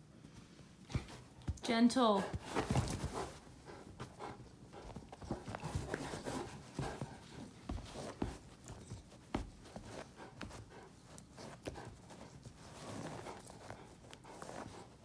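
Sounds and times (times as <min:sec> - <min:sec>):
puppy playing on couch: 0:00.1 - 0:15.0.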